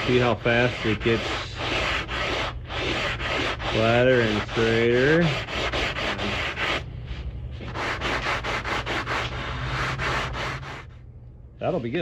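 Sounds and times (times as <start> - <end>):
sandpaper rubbing on wood: 0.0 - 6.8, 7.6 - 11.0.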